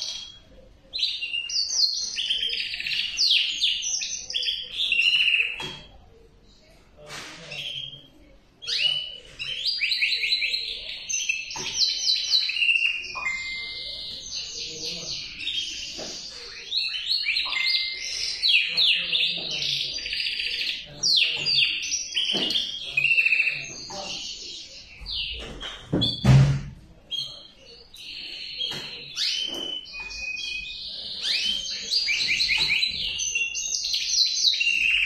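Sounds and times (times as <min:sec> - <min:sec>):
canary singing trills: 0:00.0 - 0:06.0, 0:07.5 - 0:26.3, 0:27.1 - 0:35.0.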